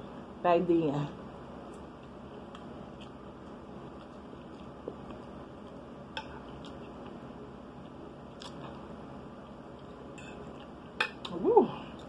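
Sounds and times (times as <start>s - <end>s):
quiet chewing: 1.7s - 7.2s, 7.8s - 12.0s.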